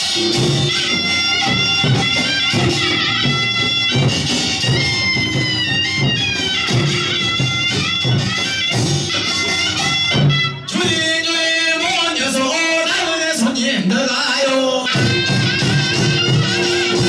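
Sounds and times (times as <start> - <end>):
steady drum beat: 0.0 - 12.6, 14.9 - 17.0
nasal shawm melody: 0.0 - 13.2, 14.9 - 17.0.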